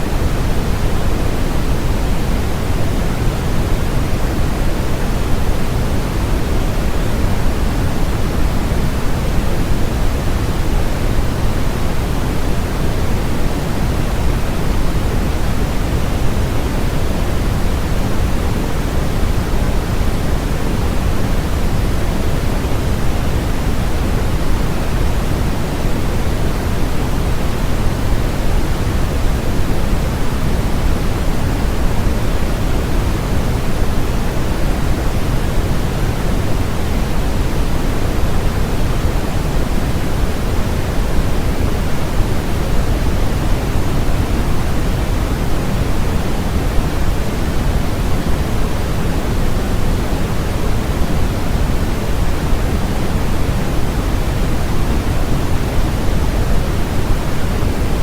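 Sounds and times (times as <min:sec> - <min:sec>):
steady pink noise: 0:00.0 - 0:58.0.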